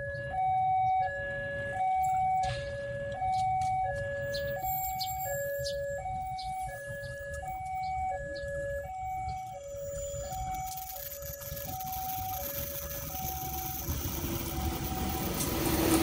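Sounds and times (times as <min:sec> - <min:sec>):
two-tone level crossing alarm: 0:00.0 - 0:16.0.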